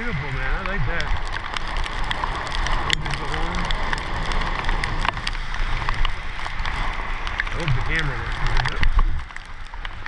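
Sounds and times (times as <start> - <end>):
raindrops ticking on camera: 0.0 - 10.0
wet pavement noise: 0.0 - 10.0.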